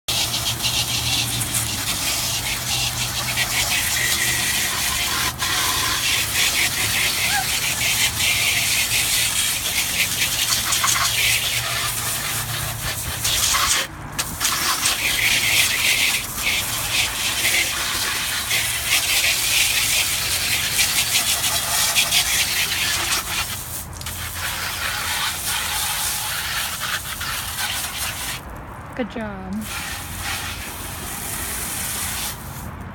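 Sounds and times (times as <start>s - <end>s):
water spraying on refrigerator: 0.0s - 28.4s, 29.6s - 32.6s.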